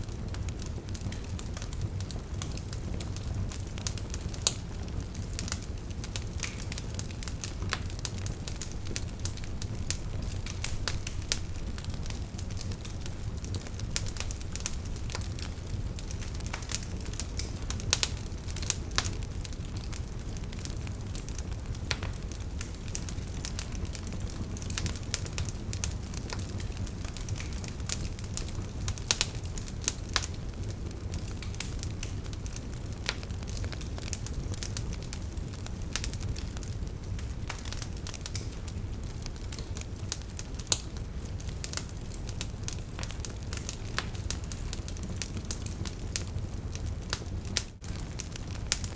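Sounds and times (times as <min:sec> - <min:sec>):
campfire crackling and popping: 0:00.0 - 0:48.9
low rumble of flames: 0:00.0 - 0:48.9.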